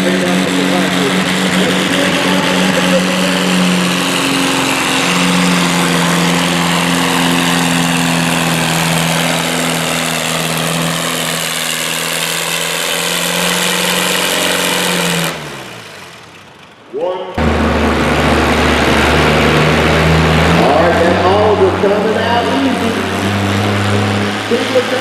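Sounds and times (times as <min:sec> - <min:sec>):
tractor engine running hard: 0:00.0 - 0:25.0.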